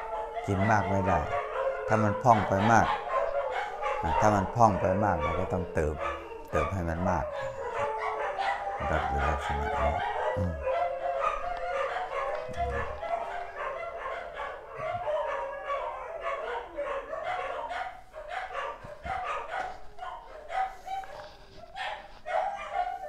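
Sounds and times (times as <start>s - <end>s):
dogs barking and howling: 0.0s - 23.0s.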